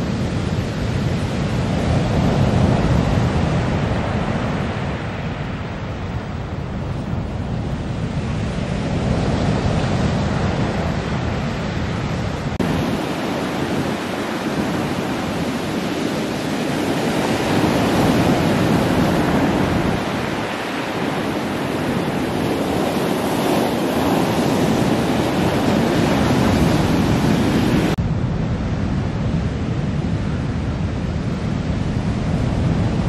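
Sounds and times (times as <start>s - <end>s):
sea surf washing onto shore: 0.0s - 33.0s.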